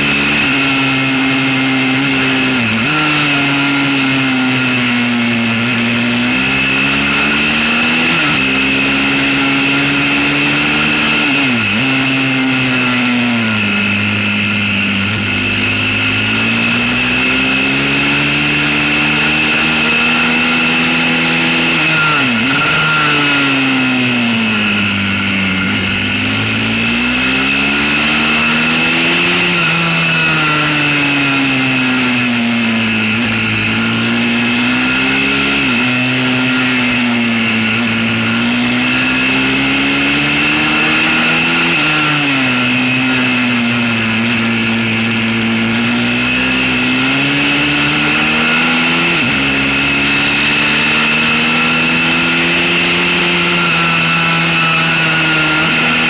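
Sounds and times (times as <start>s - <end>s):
high whine: 0.0s - 56.0s
motorbike engine revving: 0.0s - 56.0s.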